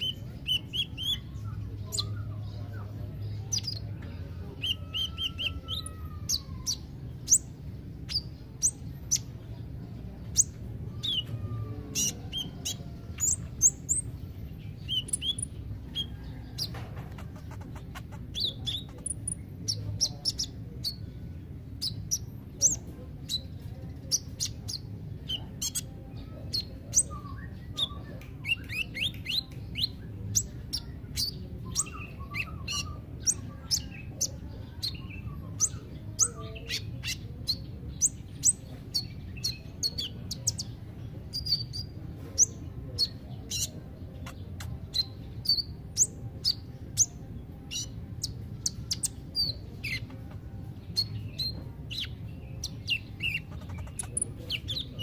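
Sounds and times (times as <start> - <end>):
low background hum: 0.0 - 55.0
sunbird chirping and twittering: 0.0 - 55.0.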